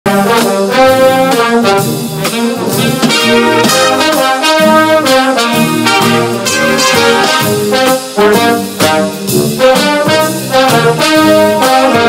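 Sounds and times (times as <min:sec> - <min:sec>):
brass-led orchestral music: 0:00.1 - 0:12.0.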